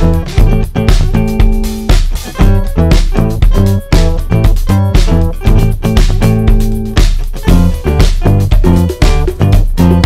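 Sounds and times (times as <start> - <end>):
guitar and bass music with beat: 0.0 - 10.0.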